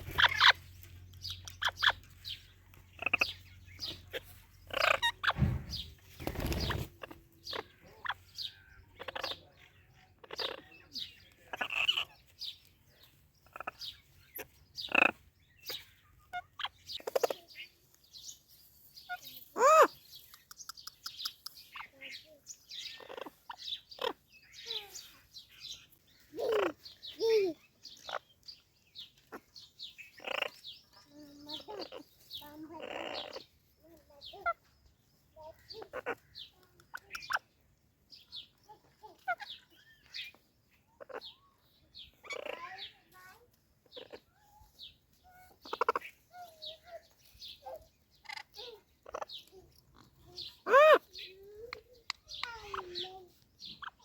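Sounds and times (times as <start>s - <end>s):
parrots chirping and calling: 0.0s - 33.7s, 35.4s - 54.0s.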